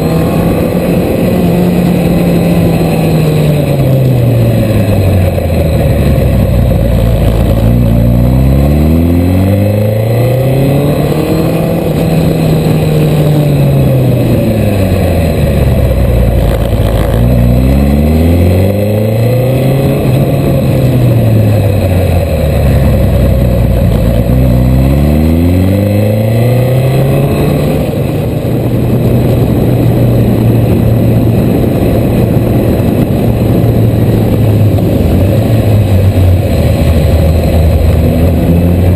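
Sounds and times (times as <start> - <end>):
motorcycle engine accelerating: 0.0 - 38.9
wind rush: 0.0 - 38.9.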